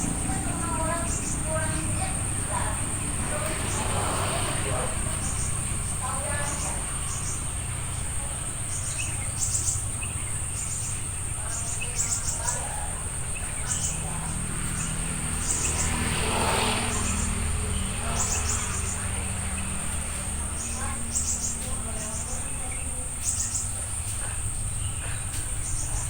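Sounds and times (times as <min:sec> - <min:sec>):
insect chirping pulses: 0:00.0 - 0:26.0
insects whining: 0:00.0 - 0:26.0.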